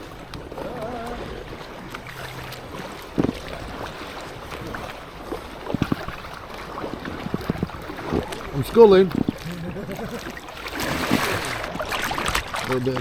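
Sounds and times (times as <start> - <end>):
paddle strokes splashing: 0.0 - 13.0
rushing water: 0.0 - 13.0.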